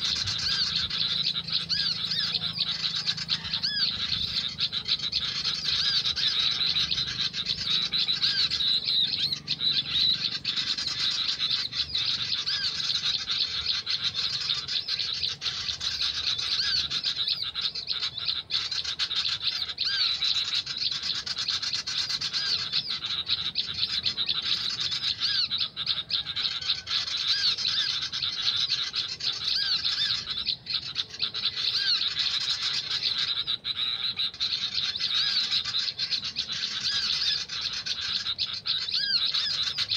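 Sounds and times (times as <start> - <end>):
birds chirping chorus: 0.0 - 39.9.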